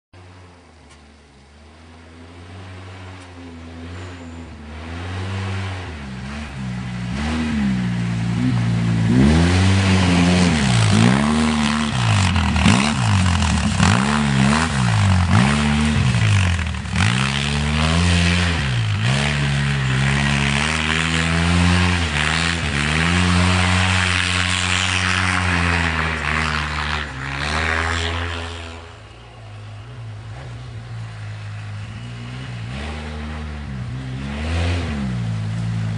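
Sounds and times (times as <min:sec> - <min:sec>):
engine revving: 0:01.8 - 0:35.9.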